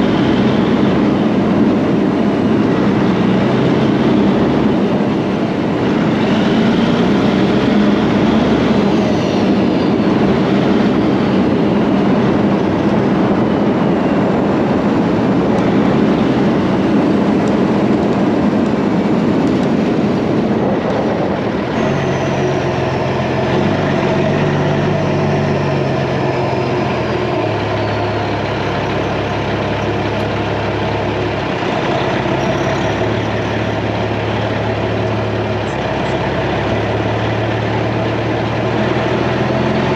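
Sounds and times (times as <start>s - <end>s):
engine hum changing pitch: 0.0s - 39.9s
truck road and engine noise: 0.0s - 39.9s.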